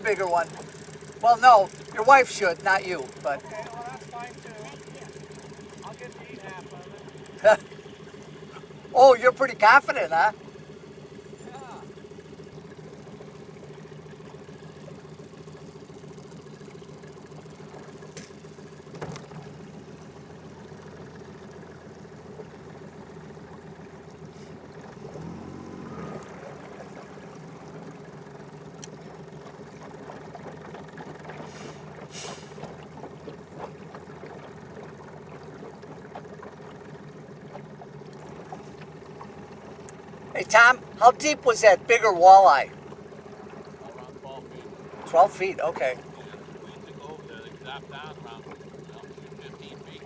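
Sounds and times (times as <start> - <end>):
outboard motor humming: 0.0 - 50.0.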